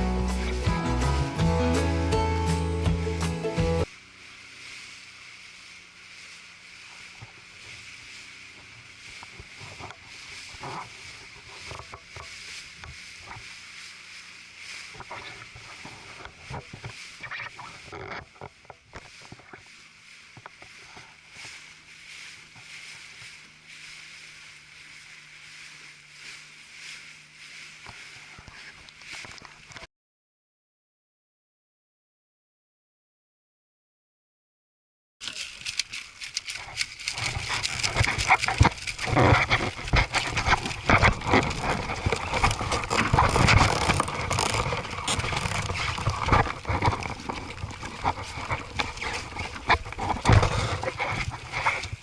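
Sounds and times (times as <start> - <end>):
water sloshing around boat: 3.8 - 29.9, 35.2 - 52.0.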